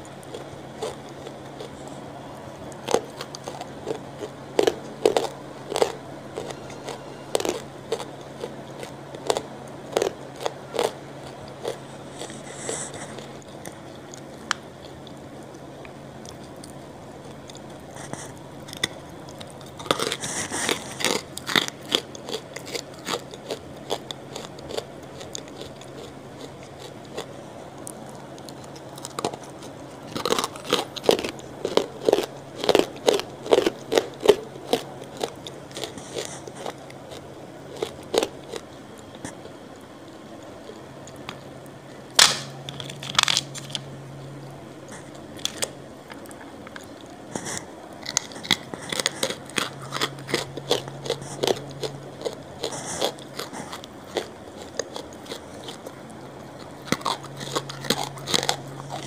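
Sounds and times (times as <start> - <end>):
crunchy food chewing: 0.0 - 59.0.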